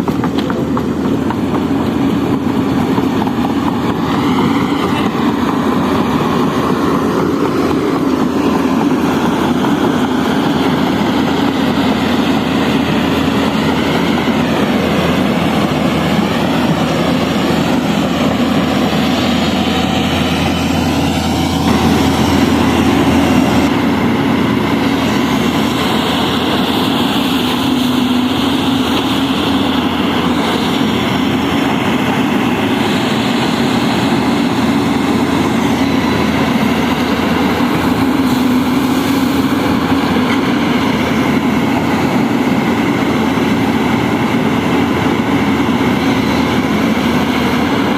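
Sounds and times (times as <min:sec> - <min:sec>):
diesel excavator engines: 0:00.0 - 0:47.9
wavering whine: 0:01.4 - 0:47.9.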